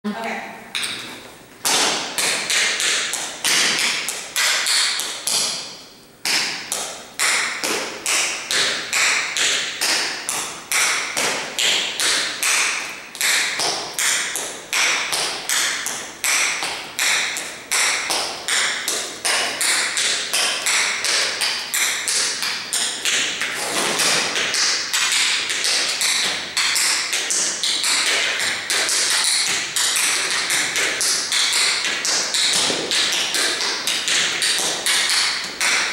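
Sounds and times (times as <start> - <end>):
tap shoes on vinyl floor: 0.7 - 35.9.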